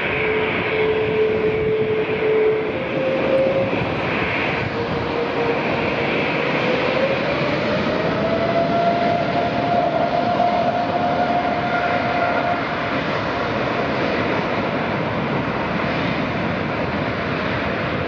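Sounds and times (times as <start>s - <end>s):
jet engines rushing: 0.0s - 18.0s
steady engine whine: 0.0s - 18.0s.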